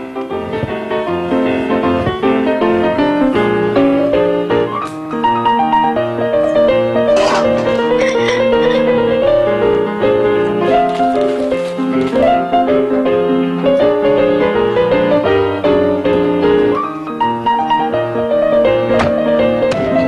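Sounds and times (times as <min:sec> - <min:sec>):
piano background music: 0:00.0 - 0:20.0.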